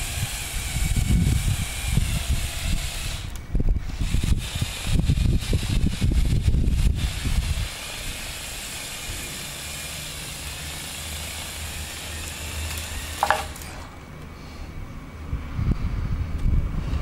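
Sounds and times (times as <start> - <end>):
toy motors and gears whirring: 0.0 - 14.0.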